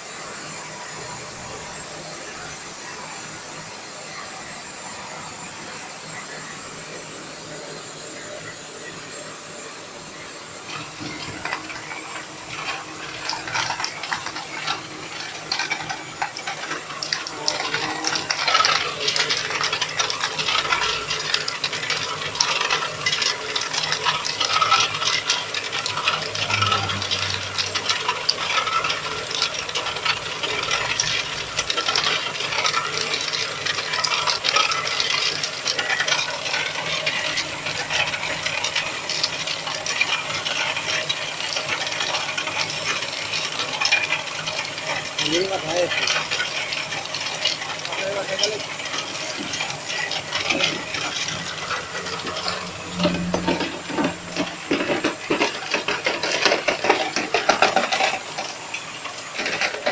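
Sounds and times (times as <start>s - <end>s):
machine hum: 0.0s - 59.9s
ice clattering into plastic basket: 10.7s - 59.9s.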